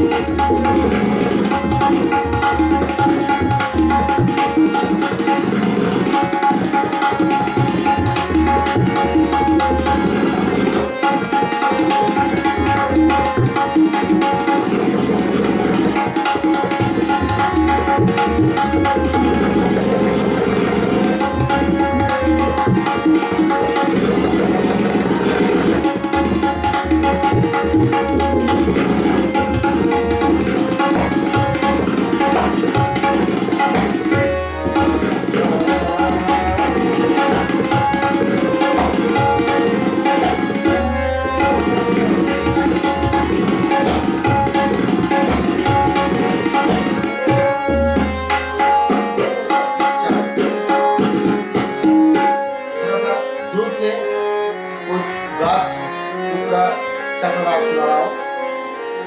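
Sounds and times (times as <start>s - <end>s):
fast tabla drumming: 0.0s - 53.8s
harmonium melody: 0.0s - 59.0s.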